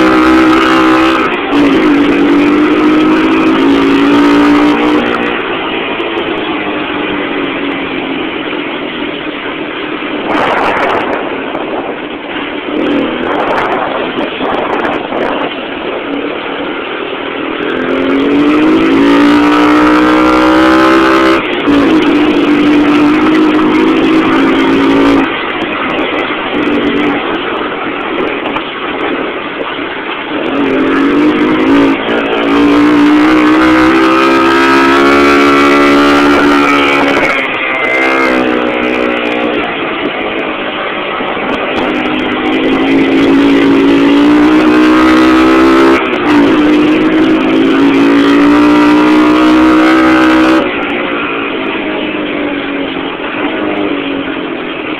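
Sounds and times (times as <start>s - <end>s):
atv engine revving: 0.0s - 54.9s.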